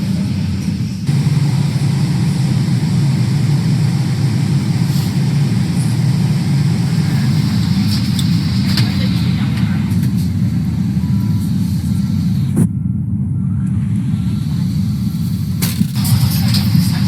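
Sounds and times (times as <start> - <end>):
rushing noise: 0.0 - 17.0
vehicle running hum: 0.0 - 17.0.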